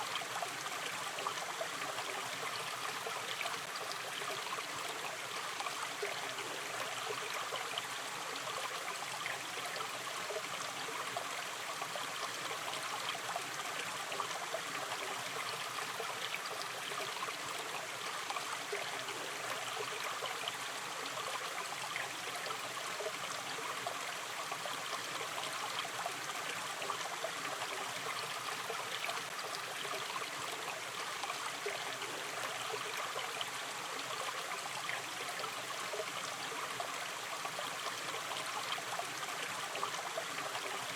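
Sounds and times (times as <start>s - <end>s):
river stream flowing: 0.0s - 40.9s.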